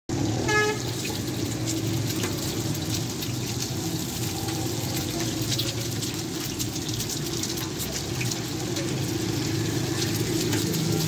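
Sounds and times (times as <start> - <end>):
food sizzling in hot oil: 0.1 - 11.0.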